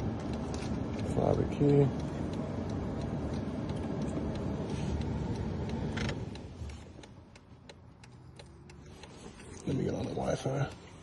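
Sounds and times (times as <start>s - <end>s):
faint regular ticking: 0.0s - 11.0s
low background rumble: 0.0s - 11.0s.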